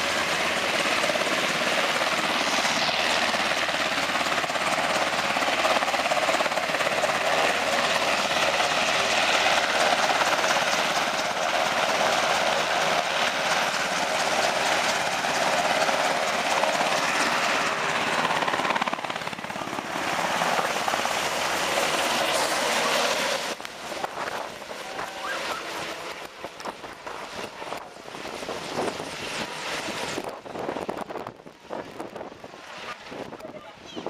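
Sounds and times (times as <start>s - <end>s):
helicopter rotor and turbine: 0.0s - 34.0s.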